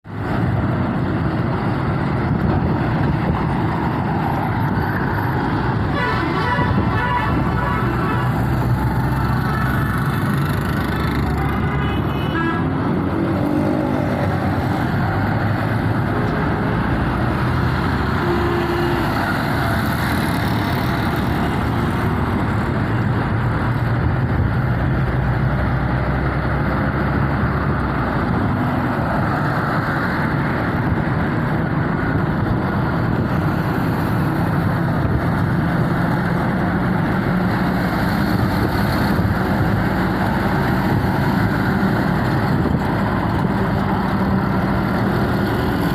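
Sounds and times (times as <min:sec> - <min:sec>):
motor vehicle engines running: 0:00.0 - 0:45.9.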